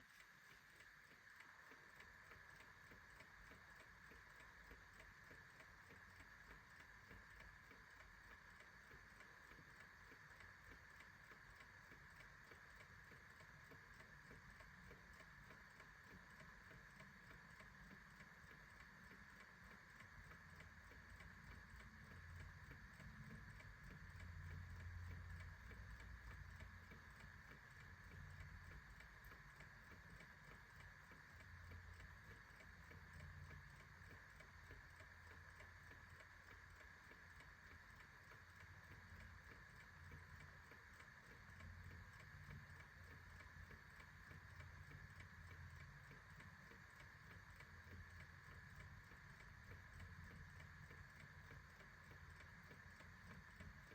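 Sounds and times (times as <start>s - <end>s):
clock ticking: 0.0s - 53.9s.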